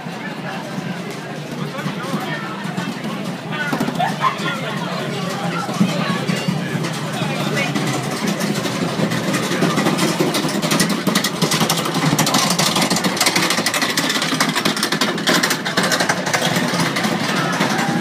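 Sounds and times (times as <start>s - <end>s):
crowd and street noise: 0.0s - 18.0s.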